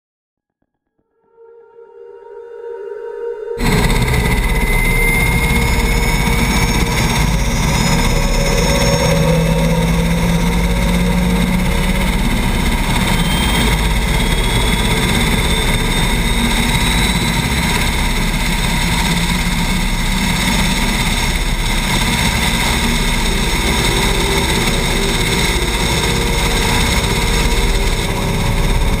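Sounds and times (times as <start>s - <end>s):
faint rising tone: 1.4s - 29.0s
helicopter rotor drone: 3.6s - 29.0s
helicopter turbine whine: 3.6s - 29.0s.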